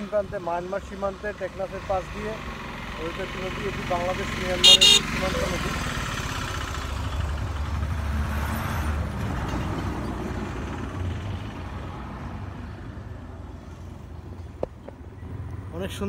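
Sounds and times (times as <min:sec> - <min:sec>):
auto-rickshaw engine rumble: 0:00.0 - 0:16.0.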